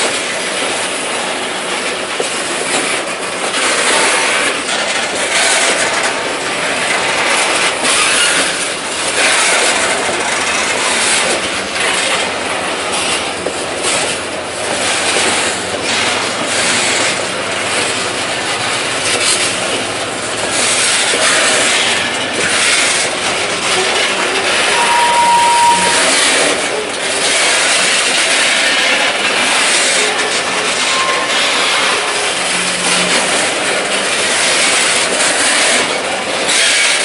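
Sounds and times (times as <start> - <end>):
freight cars rattling: 0.0 - 37.0
steel wheels on rail: 0.0 - 37.0.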